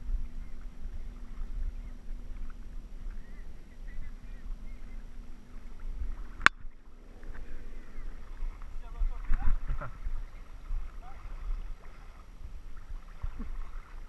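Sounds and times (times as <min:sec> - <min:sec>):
moving water rumble: 0:00.0 - 0:14.0
wind on microphone: 0:00.0 - 0:14.0.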